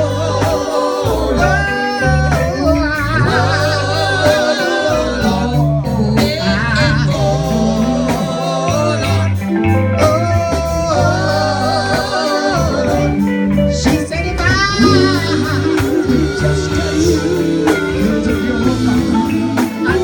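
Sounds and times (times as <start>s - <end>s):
gospel band bass and drums: 0.0s - 20.0s
person singing wavering notes: 0.0s - 20.0s.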